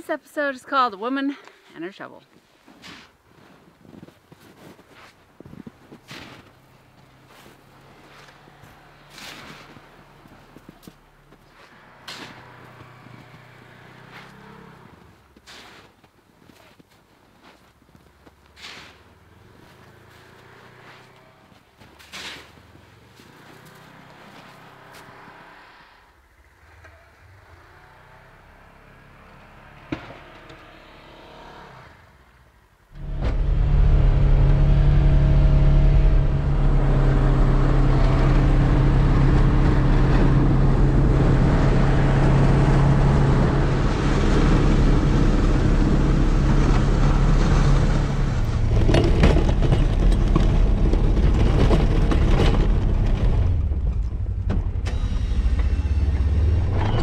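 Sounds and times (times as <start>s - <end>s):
plow blade pushing through snow: 0.0s - 32.4s, 33.0s - 57.0s
utv engine running under load: 3.4s - 15.6s, 17.4s - 57.0s.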